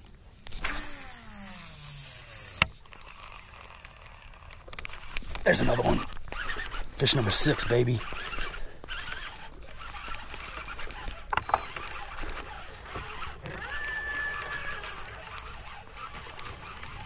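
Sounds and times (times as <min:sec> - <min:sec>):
fishing reel cranking: 0:00.5 - 0:17.0.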